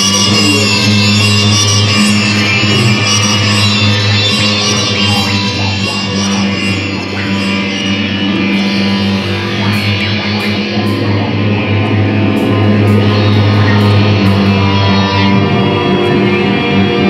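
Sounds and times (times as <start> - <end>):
electric guitar playing: 0.0 - 17.0
held low bass tone: 0.0 - 17.0.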